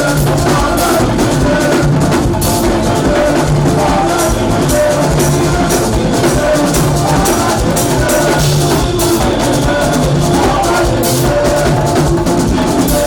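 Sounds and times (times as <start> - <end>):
drum kit beat: 0.0 - 13.0
person singing: 0.0 - 13.0
sustained instrument lines: 0.0 - 13.0.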